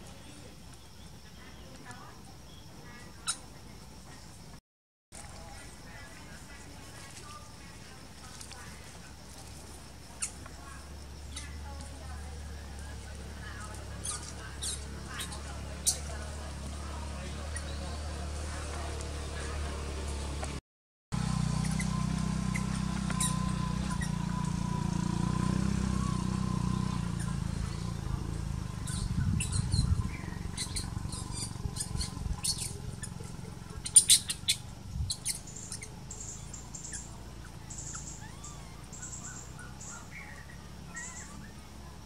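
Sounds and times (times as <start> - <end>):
birds chirping: 0.0 - 4.6, 5.4 - 20.6, 21.2 - 42.0.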